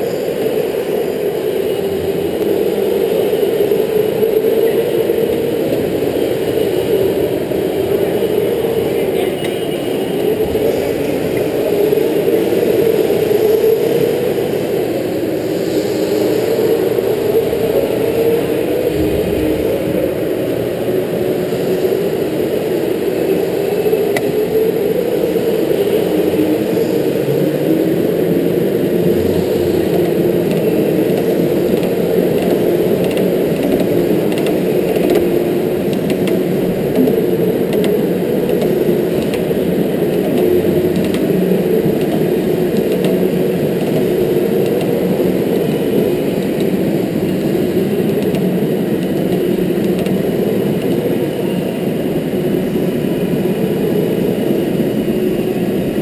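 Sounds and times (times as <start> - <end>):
electric go-kart motor whining: 0.0 - 56.0.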